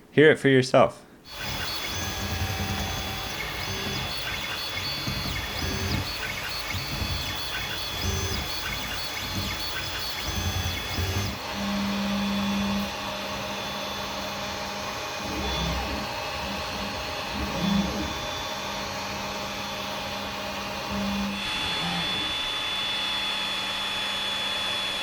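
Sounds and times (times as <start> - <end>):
stepper motor hum: 1.3 - 24.2
printer fans whirring: 1.3 - 25.0.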